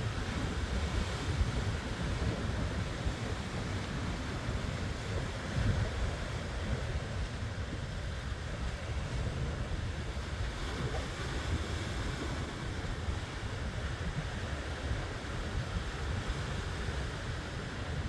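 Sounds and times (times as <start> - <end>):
ocean waves and surf: 0.0 - 18.0
wind buffeting microphone: 0.0 - 18.0.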